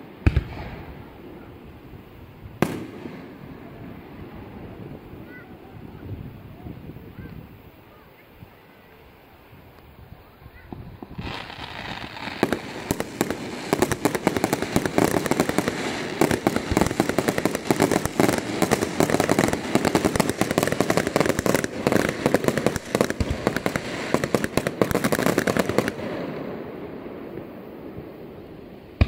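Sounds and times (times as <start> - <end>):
fireworks bangs: 0.0 - 7.5, 10.2 - 28.3
fireworks crackle: 0.0 - 29.0.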